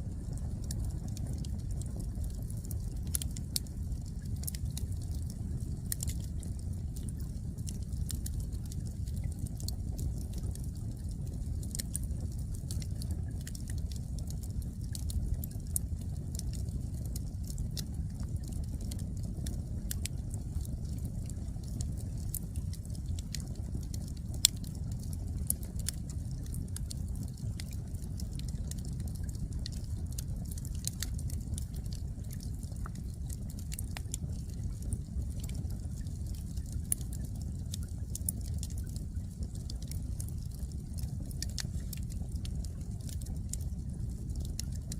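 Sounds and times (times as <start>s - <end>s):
firewood crackling: 0.0s - 44.9s.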